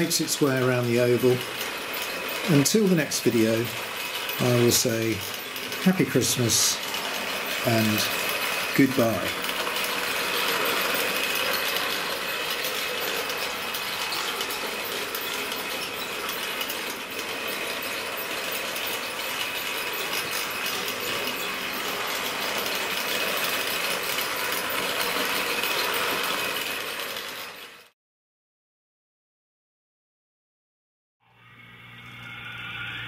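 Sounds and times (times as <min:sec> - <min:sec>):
model train motor whirring: 0:00.0 - 0:27.9
wheels clicking on rail: 0:00.0 - 0:27.9.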